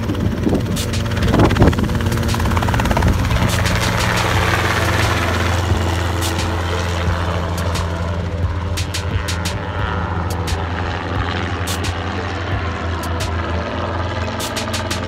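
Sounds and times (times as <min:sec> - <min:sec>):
helicopter engine and rotor hum: 0:00.0 - 0:15.0.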